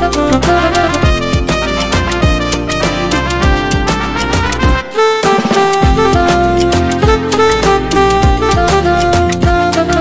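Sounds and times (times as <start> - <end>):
electronic keyboard melody: 0.0 - 10.0
programmed drum beat: 0.0 - 10.0.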